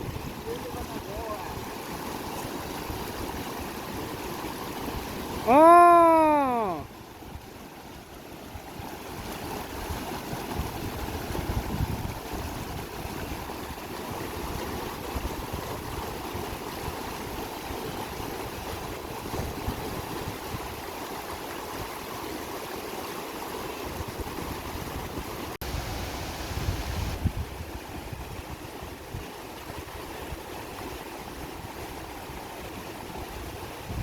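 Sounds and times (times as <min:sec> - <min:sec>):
mountain river rushing: 0:00.0 - 0:34.0.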